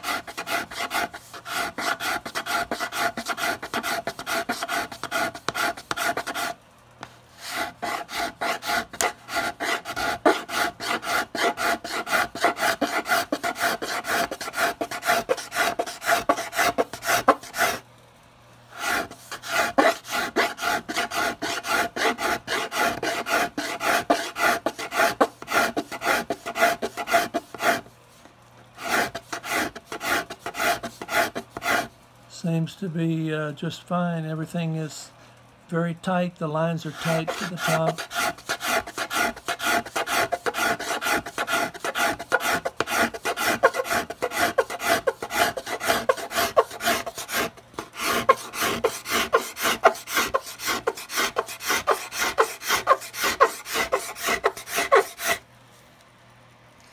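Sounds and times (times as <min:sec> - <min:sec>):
steel blade scraping wood: 0:00.0 - 0:06.6, 0:07.4 - 0:17.8, 0:18.8 - 0:27.9, 0:28.8 - 0:31.9, 0:36.7 - 0:55.4.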